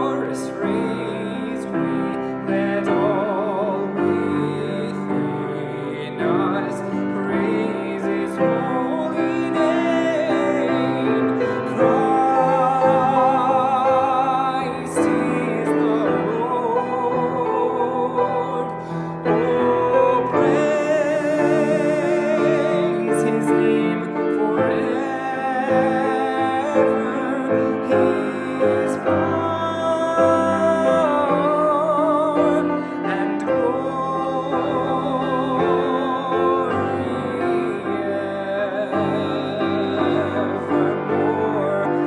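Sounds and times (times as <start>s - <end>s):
piano chords: 0.0s - 42.0s
solo singer with vibrato: 0.0s - 42.0s.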